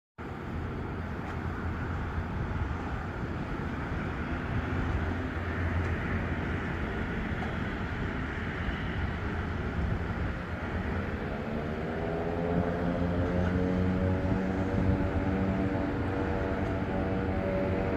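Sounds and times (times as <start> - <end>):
turboprop engines droning: 0.2 - 17.9
rising engine whine: 0.3 - 17.9.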